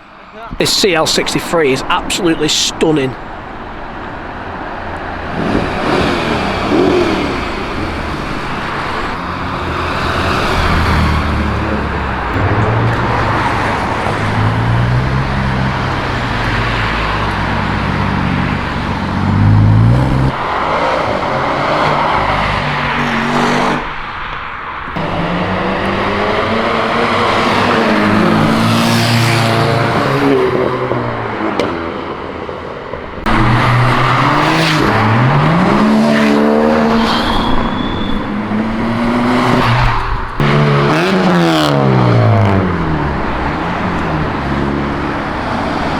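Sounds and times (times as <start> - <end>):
performance cars revving past: 0.0 - 45.9.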